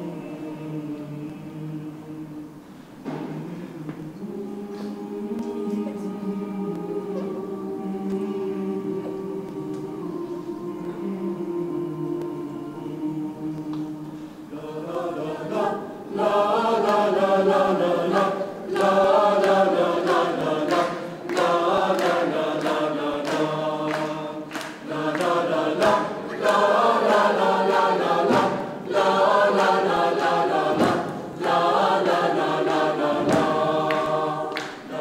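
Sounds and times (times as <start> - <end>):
mixed choir singing: 0.0 - 35.0.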